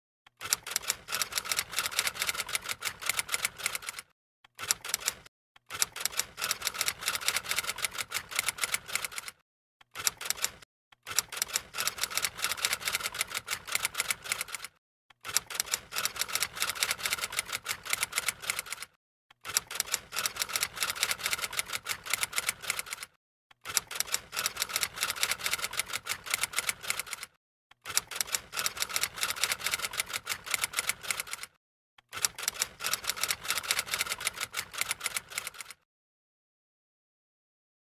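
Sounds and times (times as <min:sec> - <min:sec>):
rapid typing clicks: 0:00.4 - 0:35.8.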